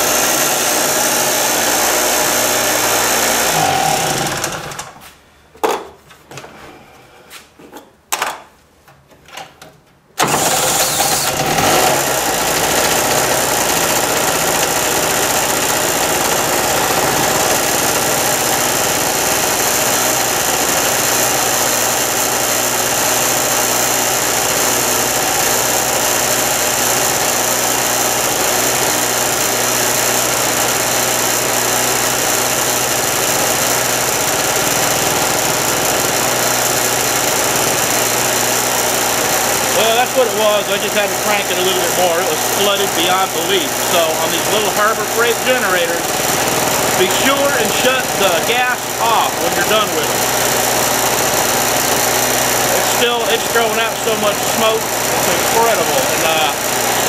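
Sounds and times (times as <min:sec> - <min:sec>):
cordless drill spinning engine: 0:00.0 - 0:05.0, 0:10.2 - 0:57.0
small generator engine running: 0:00.0 - 0:05.1, 0:10.2 - 0:57.0.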